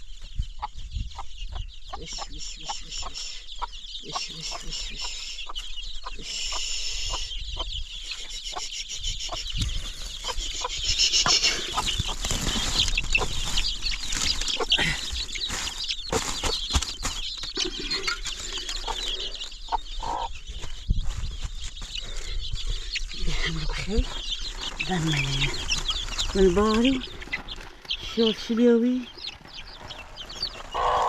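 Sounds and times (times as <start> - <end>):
chickens clucking and cheeping: 0.0 - 31.0.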